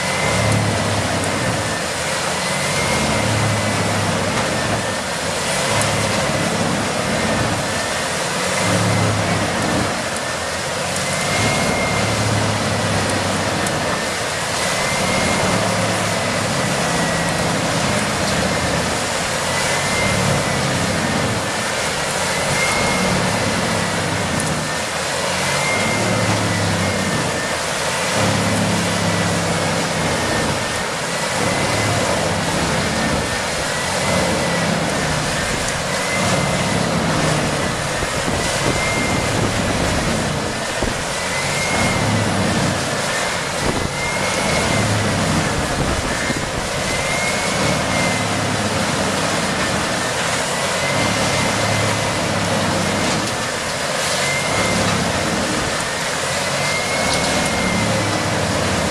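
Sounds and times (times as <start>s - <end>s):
heavy machinery engine running: 0.0s - 58.9s.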